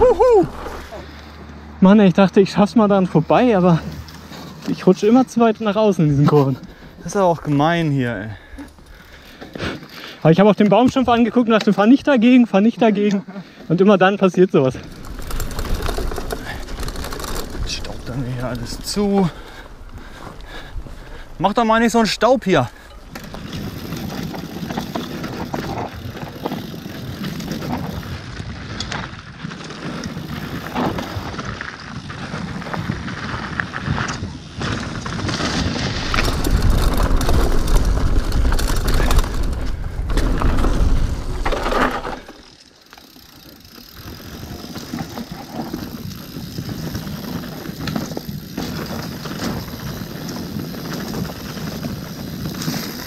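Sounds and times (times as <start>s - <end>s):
bike tyres rolling over dirt: 0.0s - 53.0s
bike chain and parts rattling: 3.2s - 53.0s.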